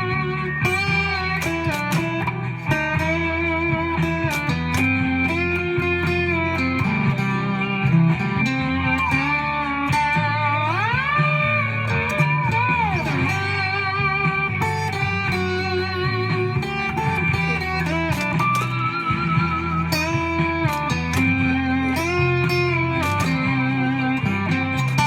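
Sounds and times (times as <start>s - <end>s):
distorted electric guitar: 0.0s - 25.0s.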